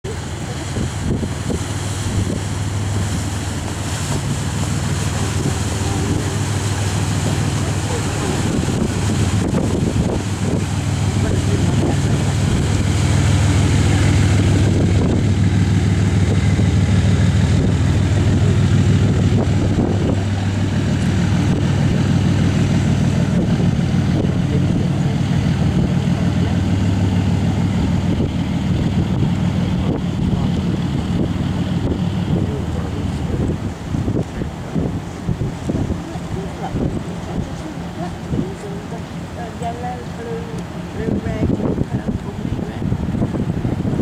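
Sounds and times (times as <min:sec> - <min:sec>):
ship diesel engines droning: 0:00.0 - 0:44.0
wind noise on microphone: 0:00.0 - 0:44.0.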